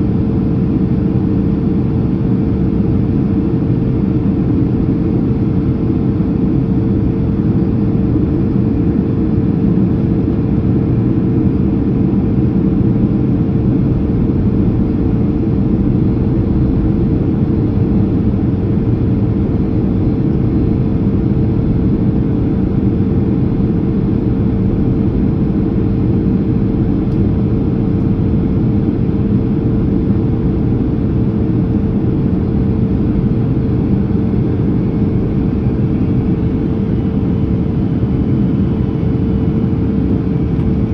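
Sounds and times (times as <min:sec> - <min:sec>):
airplane cabin engine rumble: 0:00.0 - 0:40.9
steady hum: 0:00.0 - 0:40.9.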